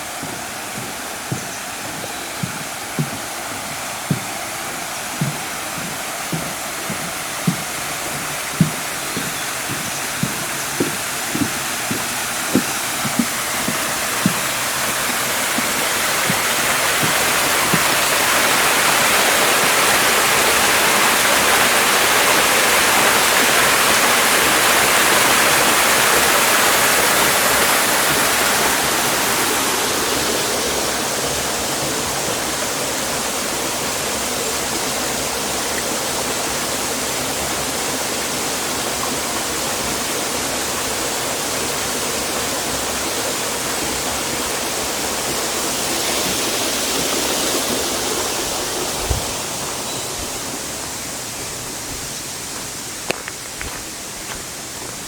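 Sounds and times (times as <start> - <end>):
rushing splashing water: 0.0 - 55.0.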